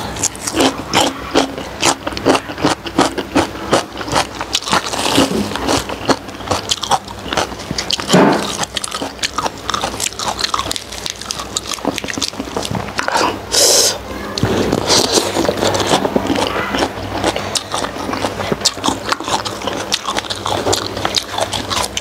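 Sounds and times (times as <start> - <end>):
wet chewing and mouth smacking: 0.2 - 22.0.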